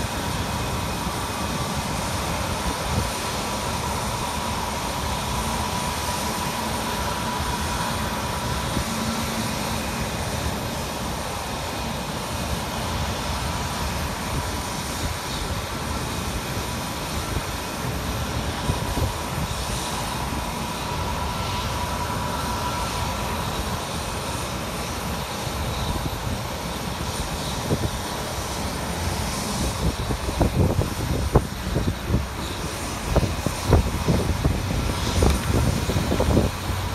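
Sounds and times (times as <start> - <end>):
jet engines running at low thrust: 0.0 - 36.9.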